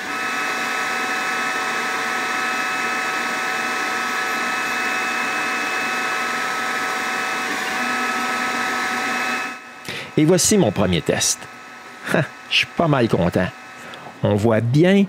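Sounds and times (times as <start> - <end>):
laser engraver whirring: 0.0 - 14.7.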